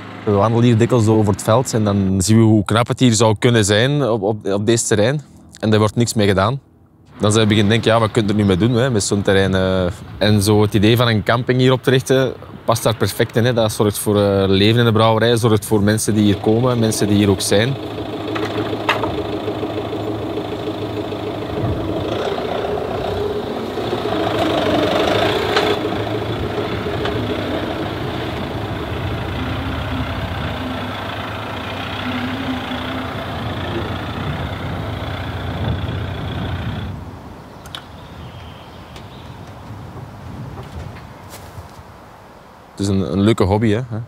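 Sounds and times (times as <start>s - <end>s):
motorhome engine running: 0.0s - 41.0s.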